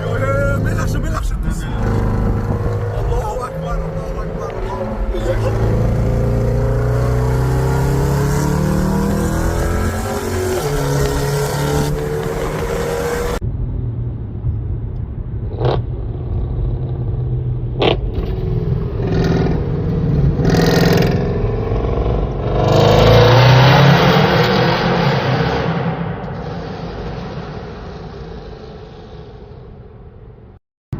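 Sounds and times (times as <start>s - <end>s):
car engine revving: 0.0s - 13.4s, 15.5s - 29.6s.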